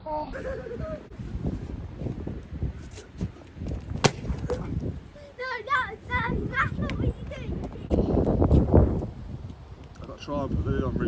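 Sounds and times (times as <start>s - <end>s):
wind buffeting microphone: 0.4s - 11.0s.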